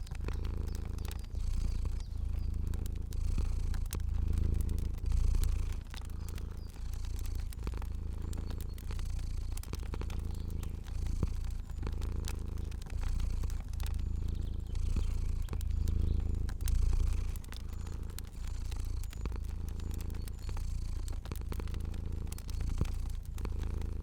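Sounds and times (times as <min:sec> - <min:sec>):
cat purring: 0:00.0 - 0:24.0
fire crackling: 0:00.0 - 0:24.0.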